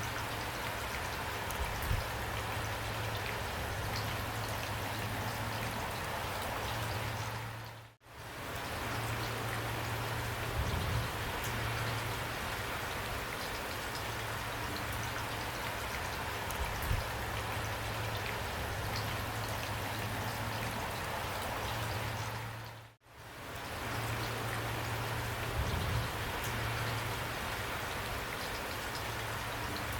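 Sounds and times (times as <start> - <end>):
heavy rain: 0.0 - 29.9.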